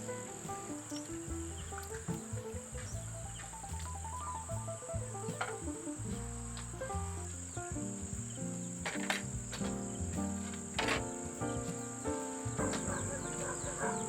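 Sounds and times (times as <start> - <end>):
background music with bass notes: 0.0 - 14.0
crickets chirring: 0.0 - 14.0.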